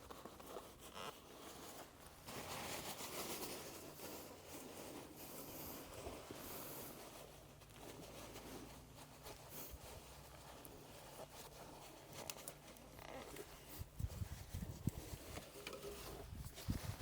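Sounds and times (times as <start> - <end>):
hands scraping and rustling parts: 0.0 - 17.0.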